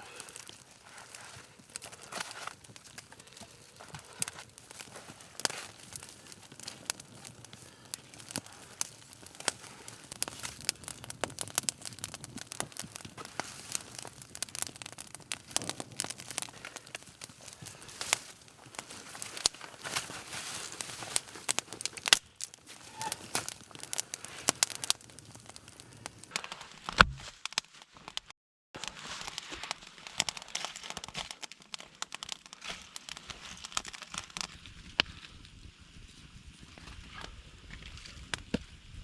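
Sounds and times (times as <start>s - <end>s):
twigs snapping: 0.0s - 34.6s
dry leaves and twigs rustling: 0.0s - 38.5s.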